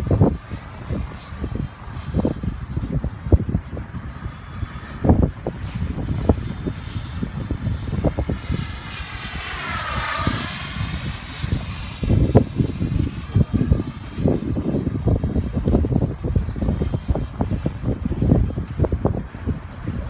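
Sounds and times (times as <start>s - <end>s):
fighter jet passing overhead: 0.0s - 20.0s
wind buffeting microphone: 0.0s - 20.0s.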